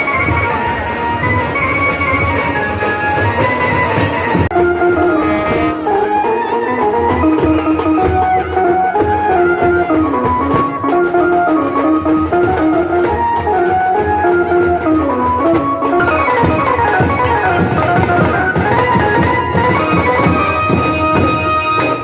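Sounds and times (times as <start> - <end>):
melody: 0.0 - 21.8
drums and percussion: 0.0 - 22.0.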